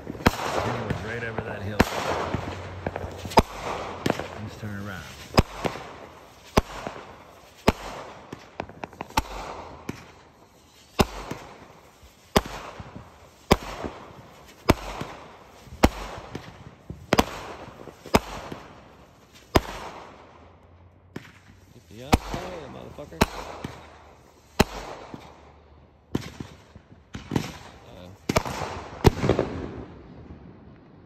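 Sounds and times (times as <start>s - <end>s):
fireworks banging: 0.0s - 30.9s
fireworks crackling: 0.0s - 31.0s.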